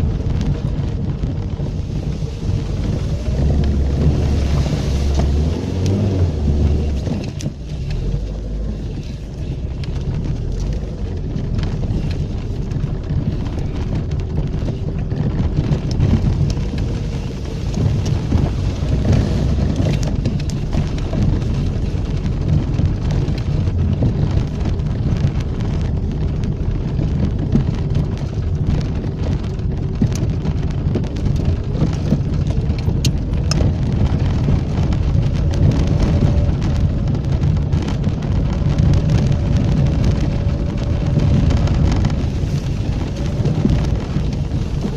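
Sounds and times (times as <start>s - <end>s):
car engine and tyres rumbling: 0.0s - 44.9s.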